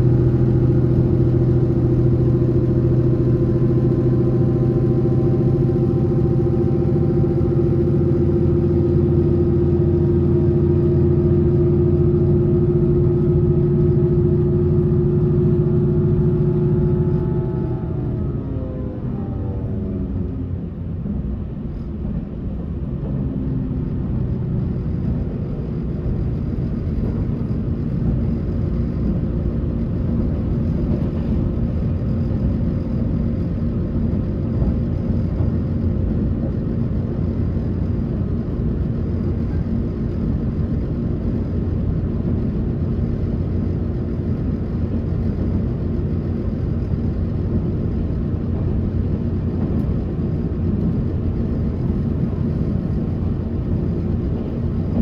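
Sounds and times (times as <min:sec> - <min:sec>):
low machinery hum: 0:00.0 - 0:55.0
train wheels rumbling on rails: 0:00.0 - 0:55.0.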